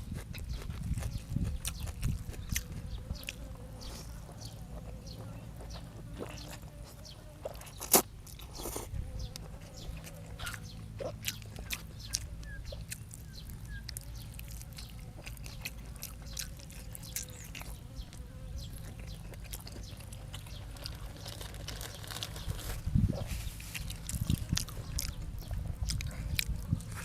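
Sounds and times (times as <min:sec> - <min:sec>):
chewing and crunching: 0:00.0 - 0:27.0
low steady hum: 0:00.0 - 0:27.0.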